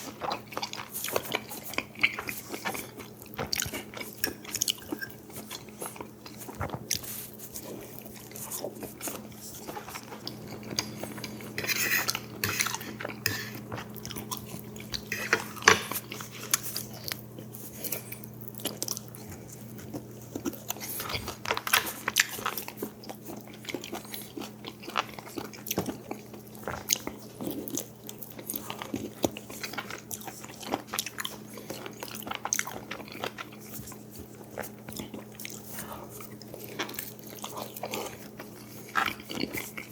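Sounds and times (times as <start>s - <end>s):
biting and chewing: 0.0s - 39.9s
faint steady hum: 0.0s - 39.9s.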